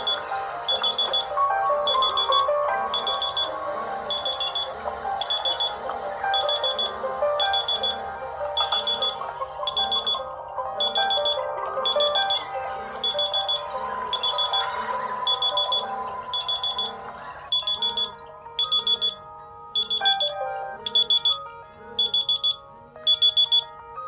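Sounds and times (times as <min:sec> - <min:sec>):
high electronic beeper pips: 0:00.0 - 0:21.4, 0:22.0 - 0:23.7
melodic alarm tune: 0:00.0 - 0:24.0.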